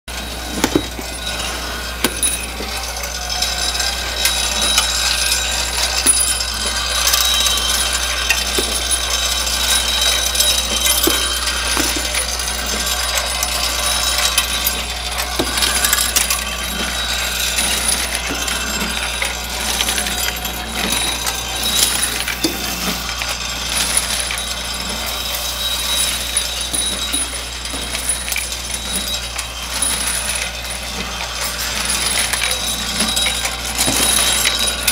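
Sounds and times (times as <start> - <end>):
steel bolts clinking and rattling: 0.2 - 34.9.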